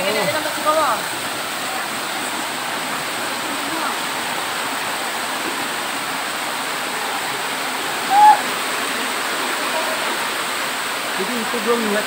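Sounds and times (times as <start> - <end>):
waterfall over rocks: 0.0 - 12.0.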